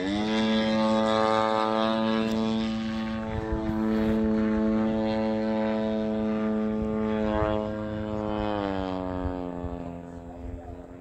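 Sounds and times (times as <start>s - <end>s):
model plane motor droning: 0.0s - 11.0s.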